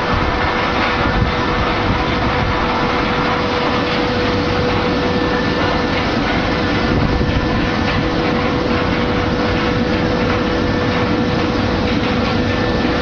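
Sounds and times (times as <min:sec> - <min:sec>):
drying fan blowing: 0:00.0 - 0:13.0
machine hum: 0:00.0 - 0:13.0.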